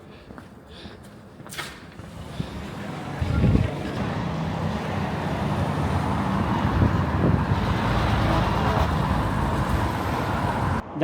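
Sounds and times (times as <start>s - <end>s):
motor vehicles passing: 2.0s - 10.8s.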